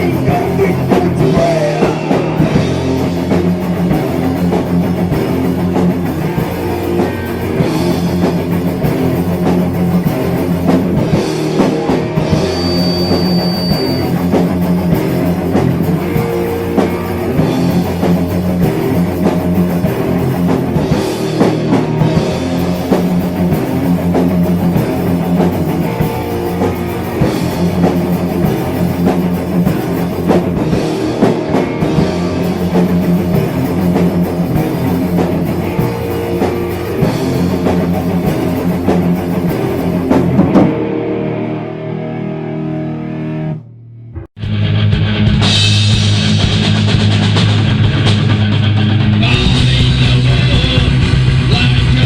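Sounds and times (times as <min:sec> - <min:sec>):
drum kit: 0:00.0 - 0:41.5, 0:44.2 - 0:52.0
heavy metal band playing: 0:00.0 - 0:43.6, 0:44.2 - 0:52.0
electric guitar: 0:00.0 - 0:52.0.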